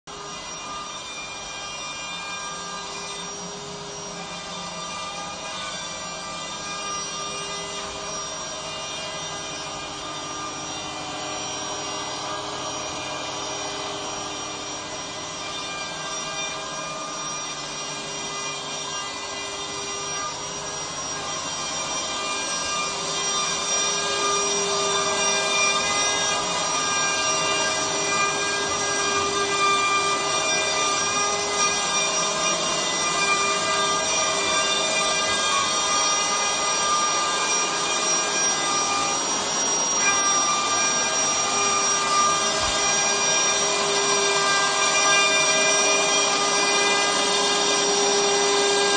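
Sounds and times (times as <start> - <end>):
router spindle whining: 0.1 - 48.9.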